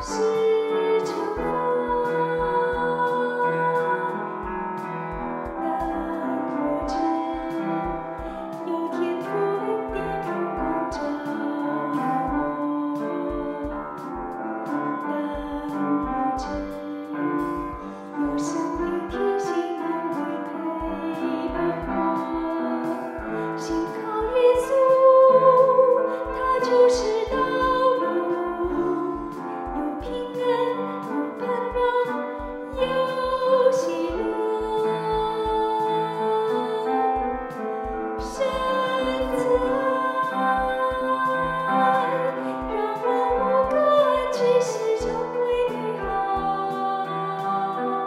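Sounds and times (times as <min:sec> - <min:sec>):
person singing a hymn: 0:00.0 - 0:04.8, 0:05.4 - 0:14.1, 0:14.8 - 0:48.0
piano accompaniment: 0:00.0 - 0:48.0.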